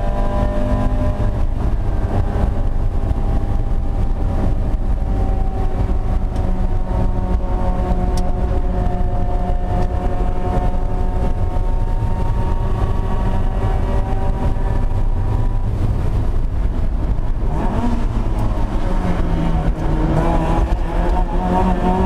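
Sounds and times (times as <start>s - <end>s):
car engine running hard: 0.0s - 22.0s
road noise: 0.0s - 22.0s.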